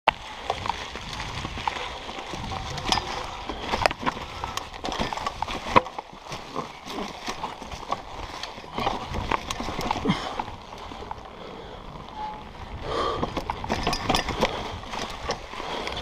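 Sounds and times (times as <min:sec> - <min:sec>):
bike clicks knocks and rattles: 0:00.1 - 0:11.4, 0:12.0 - 0:16.0
bike tyres rolling through dry leaves: 0:00.1 - 0:16.0.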